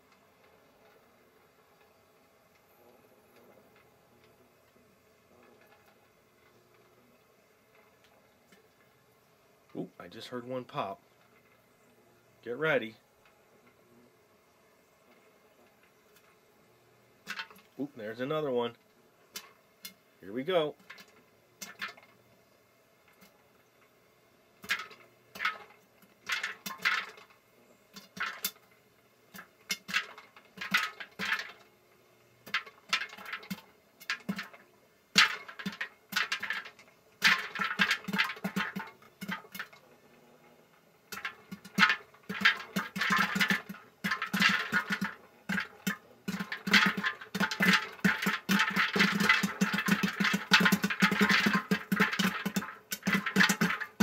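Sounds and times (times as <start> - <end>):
popcorn popping: 0.0 - 54.0.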